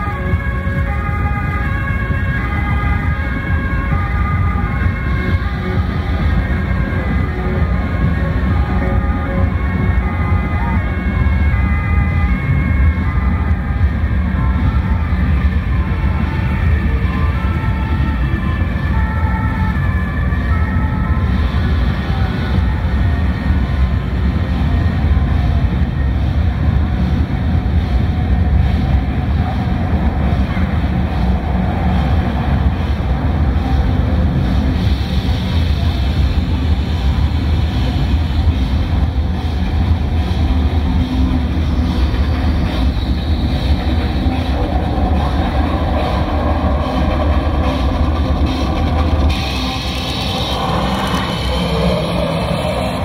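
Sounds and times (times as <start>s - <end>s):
heavy bass from speakers: 0.0s - 53.0s
truck engine running: 0.0s - 53.0s.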